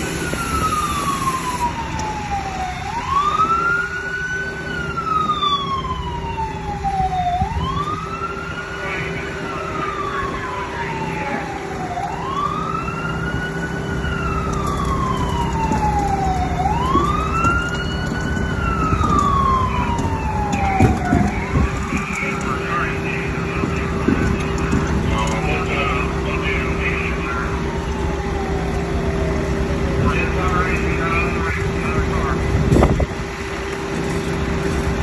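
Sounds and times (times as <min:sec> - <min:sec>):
siren wailing: 0:00.0 - 0:35.0.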